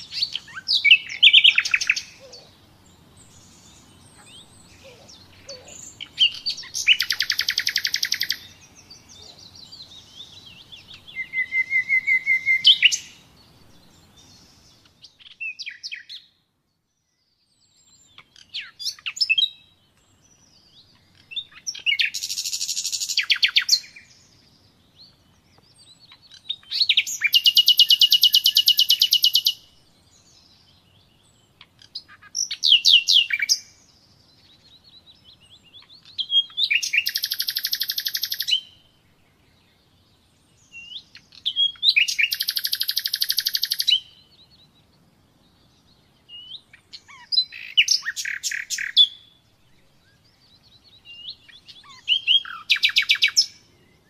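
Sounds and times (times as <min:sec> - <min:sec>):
nightingale singing trills: 0:00.0 - 0:54.0.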